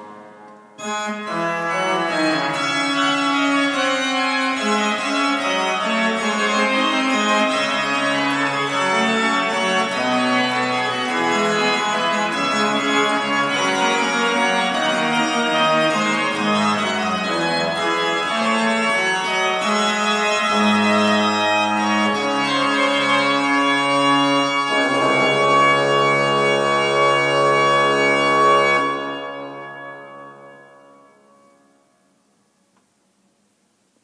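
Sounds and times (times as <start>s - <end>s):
pipe organ playing: 0.0s - 31.8s.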